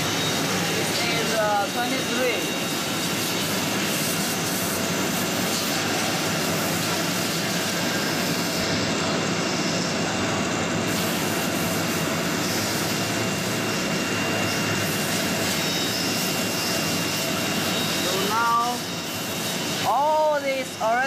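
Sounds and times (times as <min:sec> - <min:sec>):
faint high whine: 0:00.0 - 0:21.0
machinery whirring: 0:00.0 - 0:21.0.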